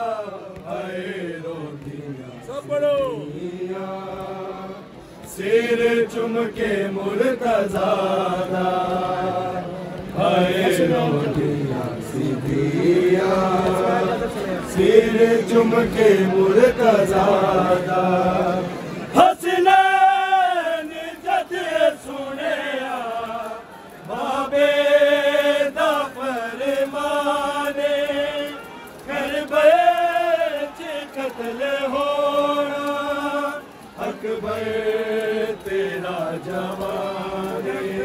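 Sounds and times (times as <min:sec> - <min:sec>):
person chanting a mourning lament: 0:00.0 - 0:38.0.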